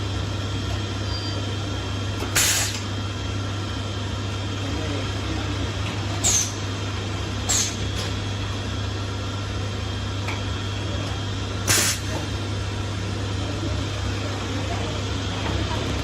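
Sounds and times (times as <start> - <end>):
welding machine hum: 0.0 - 16.0.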